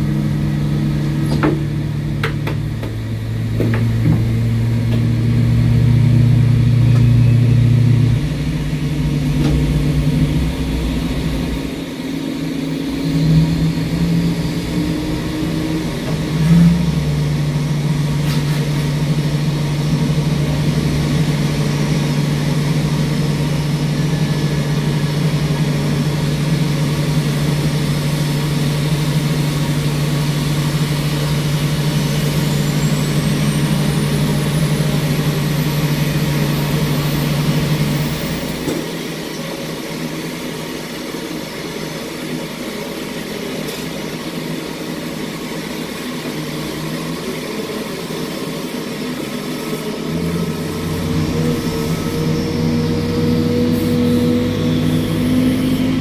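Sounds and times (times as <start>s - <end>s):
tug engine humming: 0.0s - 39.7s, 45.4s - 56.0s
high whine rising: 0.0s - 43.4s, 44.1s - 56.0s.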